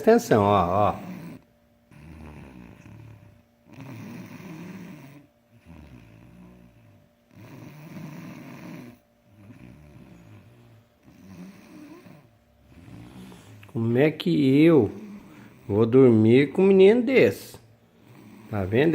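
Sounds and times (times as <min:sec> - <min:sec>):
boy snoring: 0:00.3 - 0:13.7, 0:14.4 - 0:16.2, 0:18.0 - 0:18.9.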